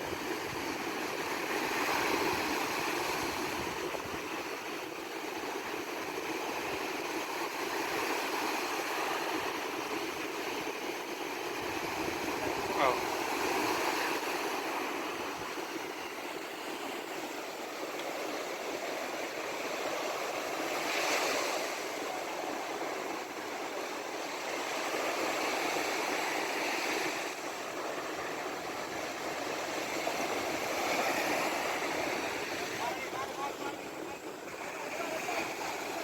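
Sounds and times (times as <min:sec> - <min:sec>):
rough sea waves breaking: 0:00.0 - 0:36.0.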